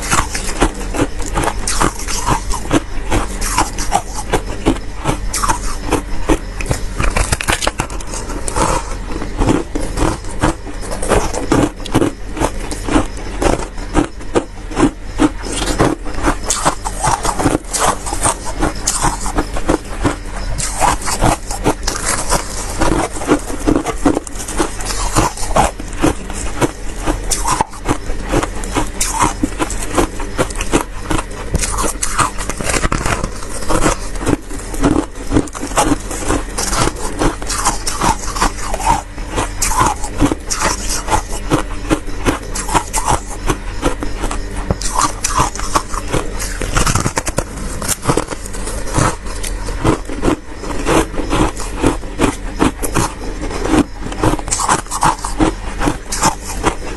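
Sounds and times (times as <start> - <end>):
frost crunching and scraping: 0.0 - 56.9.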